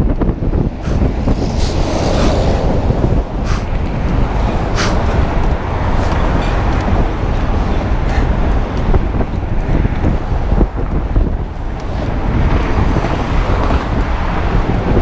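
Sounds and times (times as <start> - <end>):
road traffic rushing: 0.0 - 15.0
wind buffeting microphone: 0.0 - 15.0.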